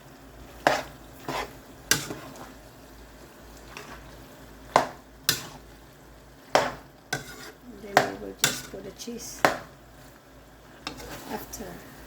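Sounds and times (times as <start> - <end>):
faint sizzle: 0.0 - 12.0
utensil stirring pasta: 0.0 - 12.0.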